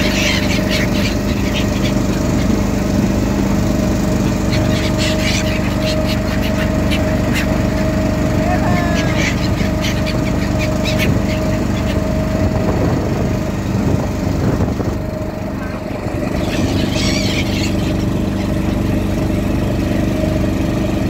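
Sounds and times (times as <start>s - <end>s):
boat engine running: 0.0s - 21.0s
gulls calling: 0.0s - 21.0s.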